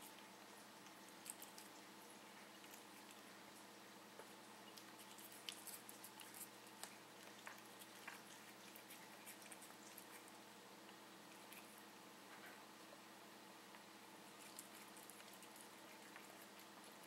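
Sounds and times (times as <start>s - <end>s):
cat chewing with wet clicks: 0.0s - 11.9s, 13.7s - 17.0s
low steady hum: 0.0s - 17.0s.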